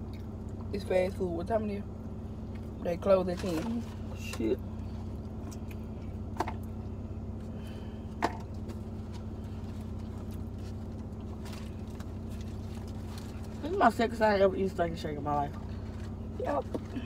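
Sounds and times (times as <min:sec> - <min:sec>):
car cabin hum: 0:00.0 - 0:17.0.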